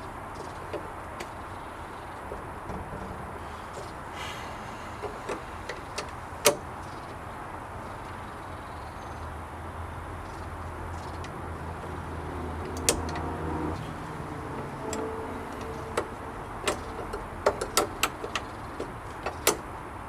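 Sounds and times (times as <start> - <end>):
steady low hum: 1.6 - 19.2.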